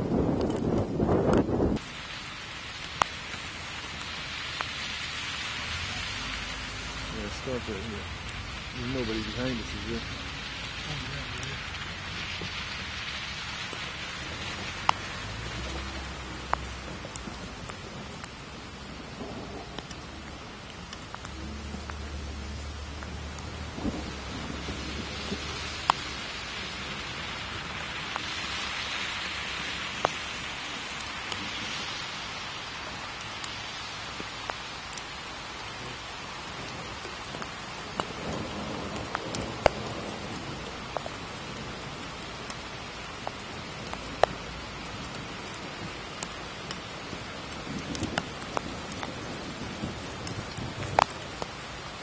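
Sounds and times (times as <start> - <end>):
raindrops ticking close by: 0.0 - 52.0
steady rain hiss: 0.0 - 52.0.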